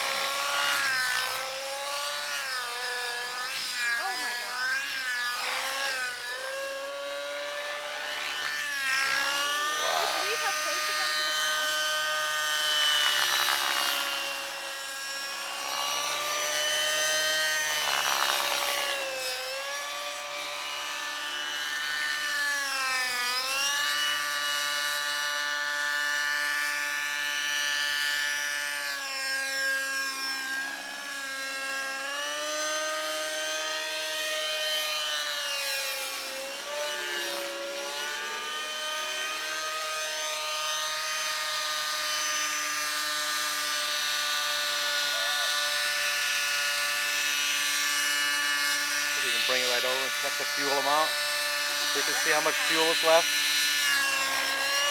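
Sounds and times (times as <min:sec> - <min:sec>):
model helicopter engine whine: 0:00.0 - 0:54.9.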